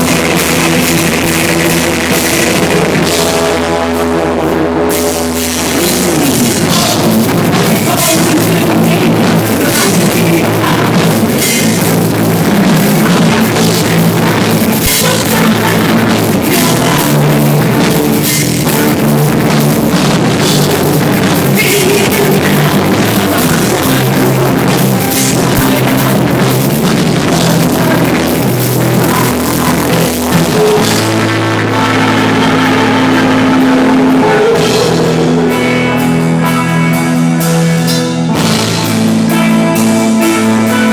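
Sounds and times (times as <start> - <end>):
drum kit with cymbals: 0.0 - 40.9
electric guitar and bass: 0.0 - 40.9
rock band playing live: 0.0 - 40.9.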